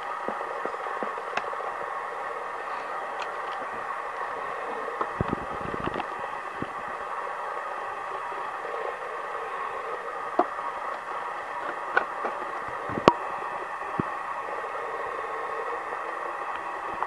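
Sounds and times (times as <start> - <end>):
electrical hiss with faint whine: 0.0 - 17.0.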